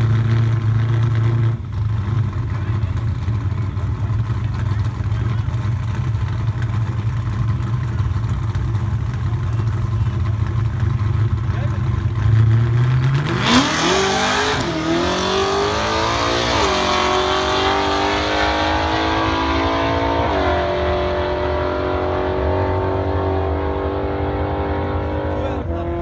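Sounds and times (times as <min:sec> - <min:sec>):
drag car engine accelerating: 0:00.0 - 0:26.0.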